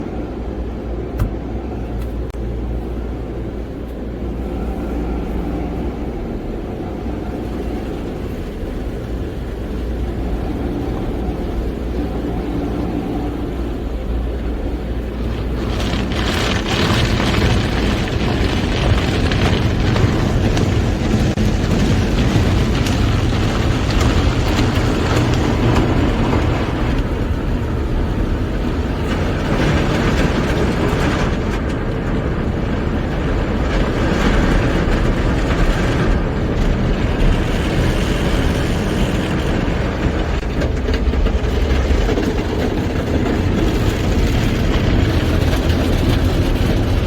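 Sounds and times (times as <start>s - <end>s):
car wash machinery rumble: 0.0s - 47.0s.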